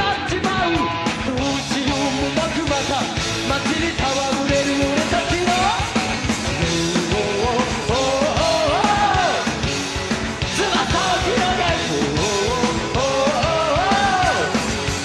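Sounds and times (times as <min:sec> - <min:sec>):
man singing: 0:00.0 - 0:09.7, 0:10.5 - 0:14.8
driving drum beat: 0:00.0 - 0:15.0
live rock band: 0:00.0 - 0:15.0.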